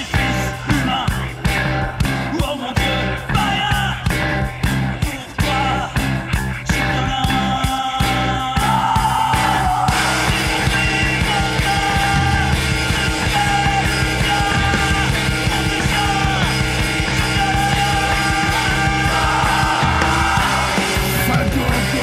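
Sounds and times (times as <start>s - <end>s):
noise-pop band music: 0.0s - 22.0s.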